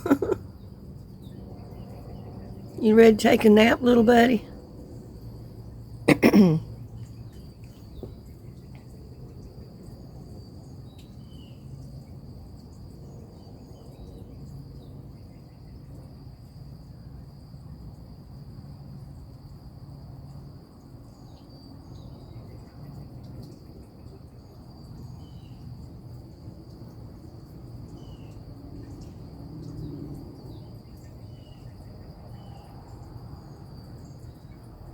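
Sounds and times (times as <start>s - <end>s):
insects trilling: 0.0s - 34.9s.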